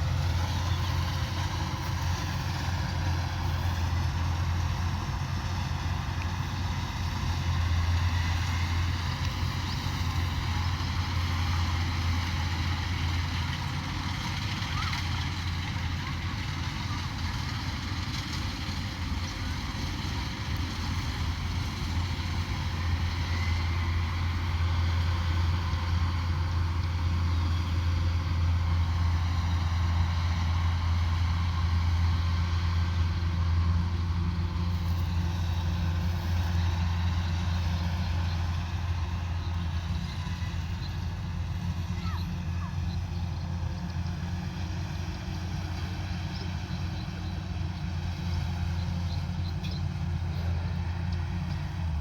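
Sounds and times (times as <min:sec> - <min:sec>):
combine harvester engine hum: 0:00.0 - 0:52.0.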